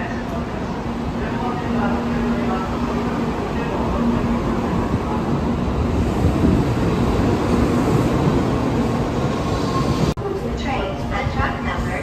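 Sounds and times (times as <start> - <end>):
bullet train rushing rumble: 0.0 - 12.0.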